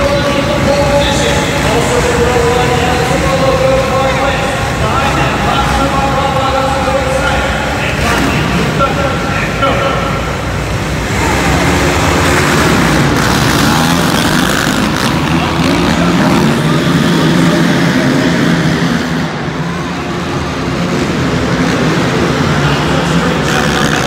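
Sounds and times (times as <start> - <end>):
atv engines racing: 0.0 - 24.0.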